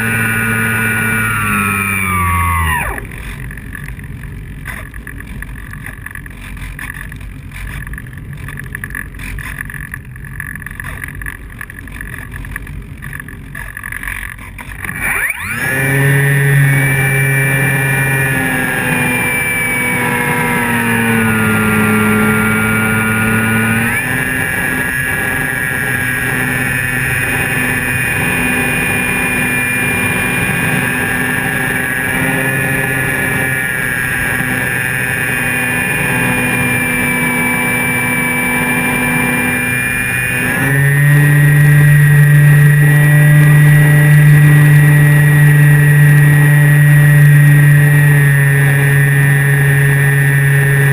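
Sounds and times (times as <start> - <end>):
electric motor and propeller humming: 0.0 - 50.9.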